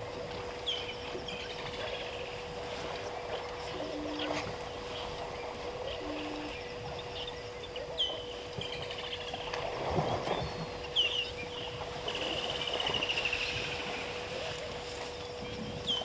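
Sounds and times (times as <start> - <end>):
faint steady hum: 0.0 - 16.0
water sloshing: 0.0 - 16.0
wild birds chirping: 0.6 - 16.0.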